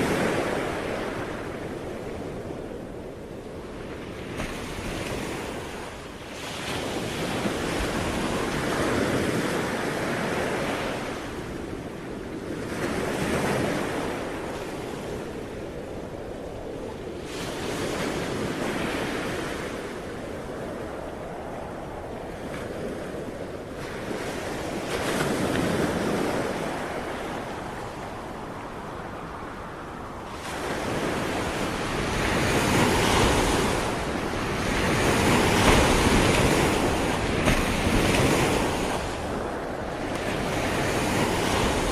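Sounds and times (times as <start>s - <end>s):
ocean waves breaking on shore: 0.0s - 41.9s
wind: 0.0s - 41.9s.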